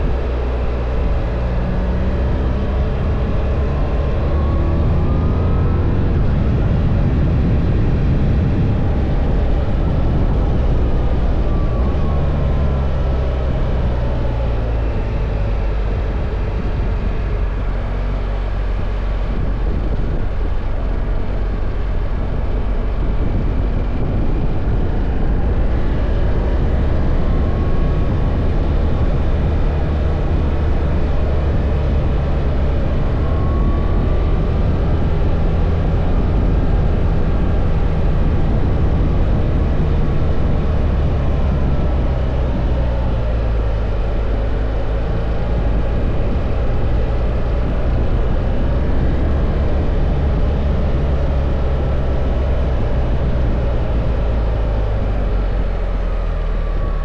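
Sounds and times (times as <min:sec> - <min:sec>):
faint whines: 0:00.0 - 0:57.0
motorcycle engine running: 0:00.0 - 0:57.0
wind rush on microphone: 0:00.0 - 0:57.0.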